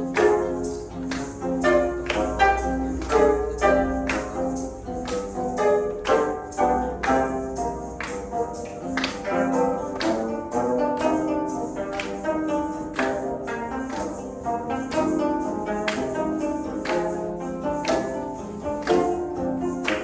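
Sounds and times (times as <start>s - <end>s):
instrumental ensemble playing: 0.0s - 20.0s.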